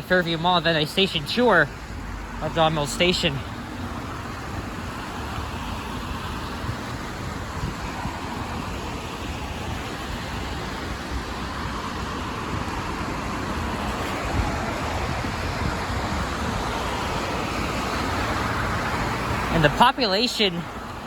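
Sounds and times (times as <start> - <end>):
tyres hissing on wet road: 0.1 - 21.0.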